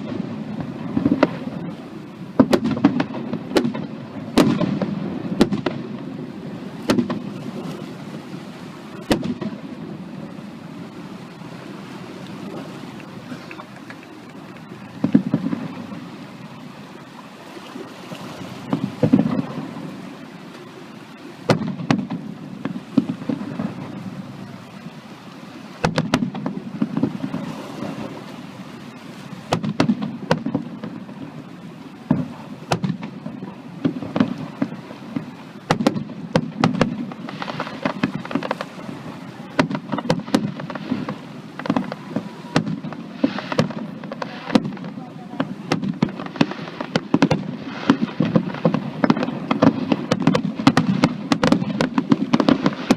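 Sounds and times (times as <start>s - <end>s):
firework crackling: 0.0s - 52.9s.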